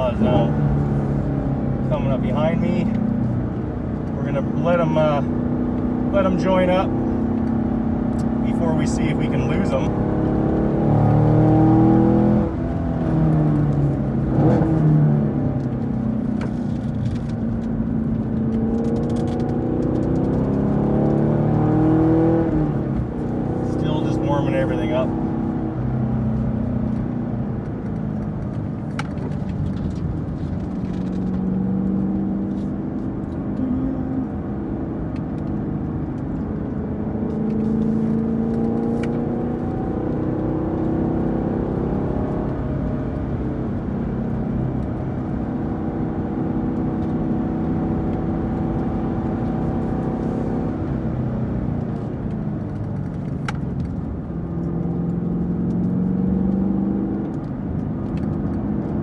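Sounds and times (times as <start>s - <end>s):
car engine running: 0.0s - 59.0s
road noise: 0.0s - 59.0s.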